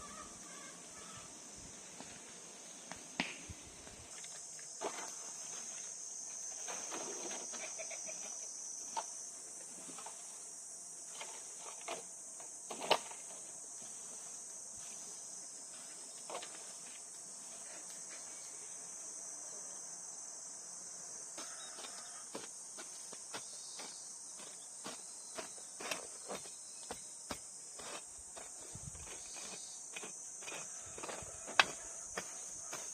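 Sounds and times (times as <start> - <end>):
chorus of summer insects: 0.0 - 32.9.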